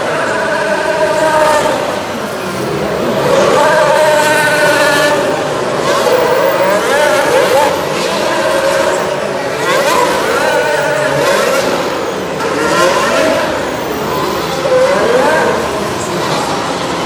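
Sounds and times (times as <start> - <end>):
racing cars passing: 0.0 - 17.0.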